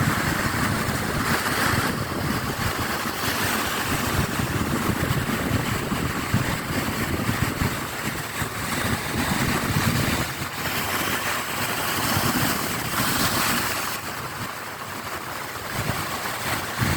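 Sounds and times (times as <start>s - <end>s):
waves breaking on rocks: 0.0s - 16.9s
wind buffeting microphone: 0.0s - 16.9s.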